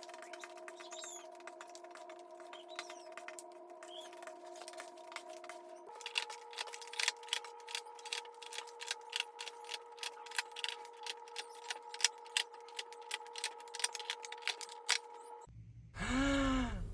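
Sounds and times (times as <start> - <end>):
small supplies clicking and tapping: 0.0 - 15.2.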